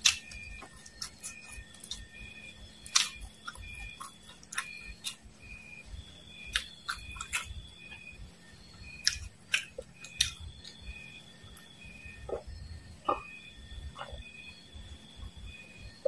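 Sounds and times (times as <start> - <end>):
crunchy chewing: 0.0 - 16.0
faint high chirping: 0.0 - 16.0.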